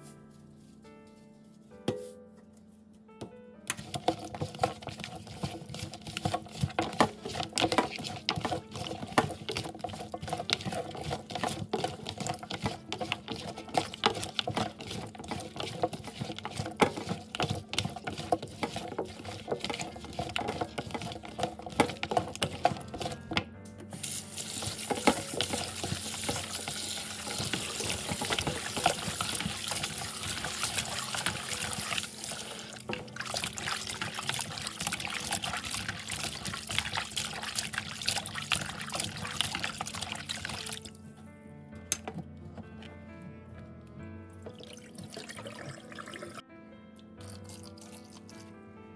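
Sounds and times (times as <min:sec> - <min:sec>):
tap water running: 0:03.7 - 0:41.0, 0:44.4 - 0:46.4.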